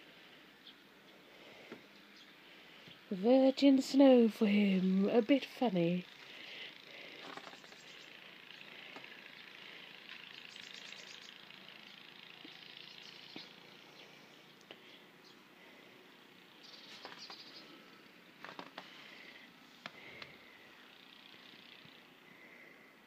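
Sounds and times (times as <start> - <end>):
quiet outdoor hiss: 0.0 - 23.0.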